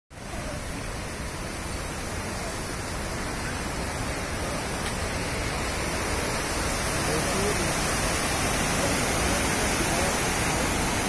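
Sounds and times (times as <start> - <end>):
water rushing down spillway: 0.1 - 11.0.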